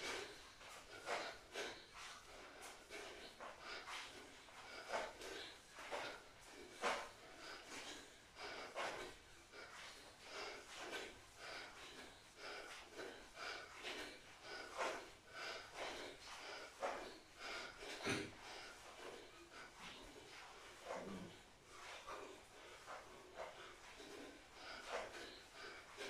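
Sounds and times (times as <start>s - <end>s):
person breathing hard: 0.0s - 26.0s.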